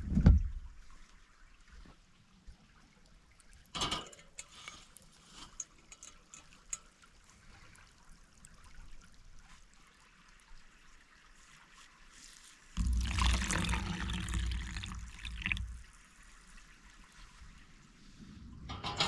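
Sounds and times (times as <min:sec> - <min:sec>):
stream trickling: 0:00.6 - 0:18.7.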